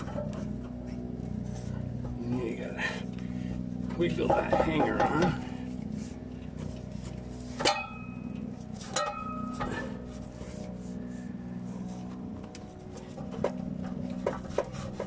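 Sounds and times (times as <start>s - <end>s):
metal exhaust pipe clanking: 0.0s - 15.0s
steady low hum: 0.0s - 15.0s.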